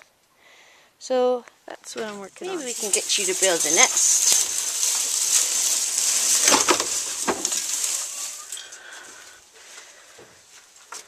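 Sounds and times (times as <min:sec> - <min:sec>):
dry hay crackling and rustling: 0:01.2 - 0:11.0.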